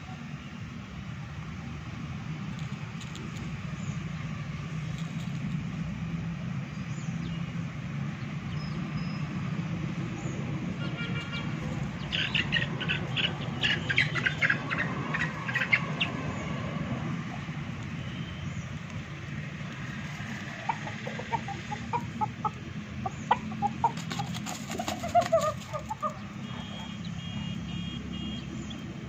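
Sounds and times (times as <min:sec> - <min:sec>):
small birds chirping: 0:02.5 - 0:05.5, 0:06.6 - 0:29.0.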